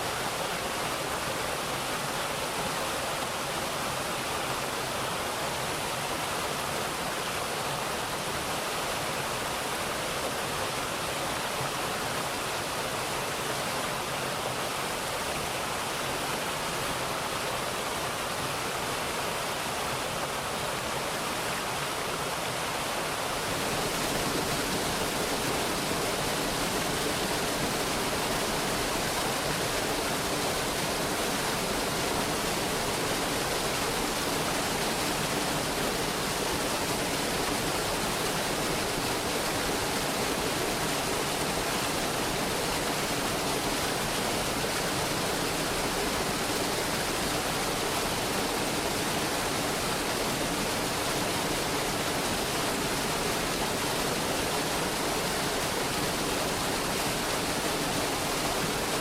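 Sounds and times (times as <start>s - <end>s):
mountain stream rushing over rocks: 0.0s - 59.0s.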